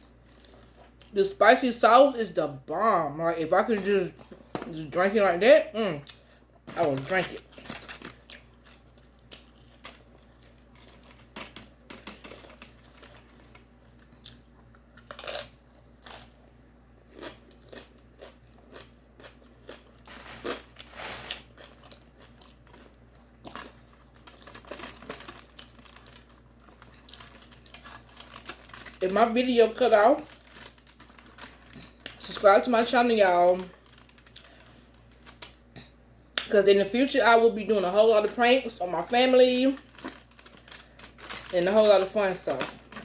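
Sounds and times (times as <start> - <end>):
person chewing and crunching food: 0.0 - 1.2, 6.0 - 36.5, 38.3 - 43.0.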